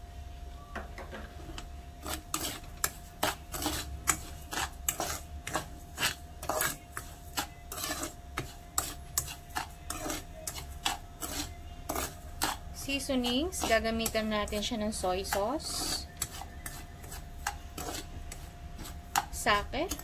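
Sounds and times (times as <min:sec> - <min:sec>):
spoon scraping sugar in a pan: 0:01.3 - 0:20.0.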